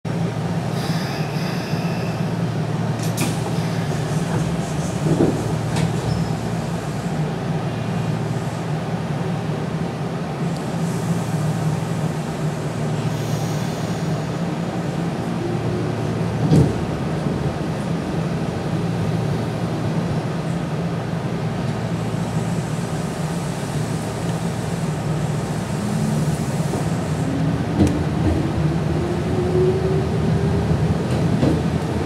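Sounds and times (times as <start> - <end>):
electric train hum and rumble: 0.0 - 32.0.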